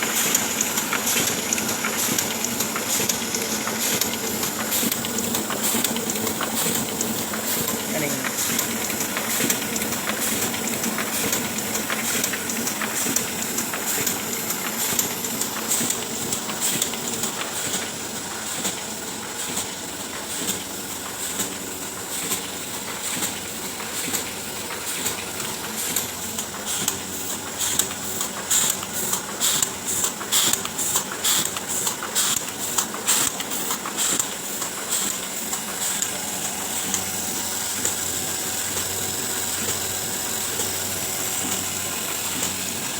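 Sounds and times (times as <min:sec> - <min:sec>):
printing press whirring: 0:00.0 - 0:42.9.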